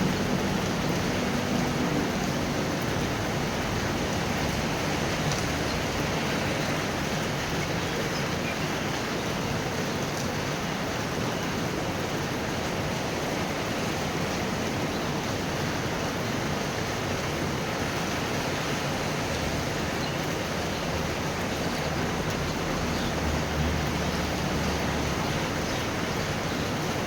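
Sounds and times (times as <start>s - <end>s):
rain falling steadily: 0.0s - 27.0s.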